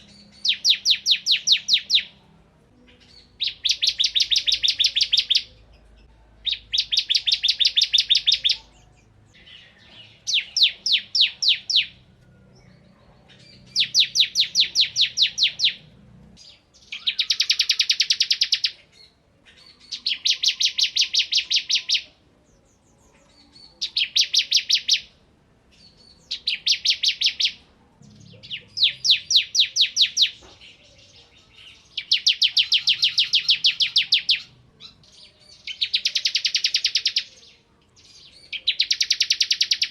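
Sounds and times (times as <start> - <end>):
bird singing rapid trills: 0.0 - 2.2, 2.9 - 5.7, 6.4 - 22.0, 25.8 - 39.9.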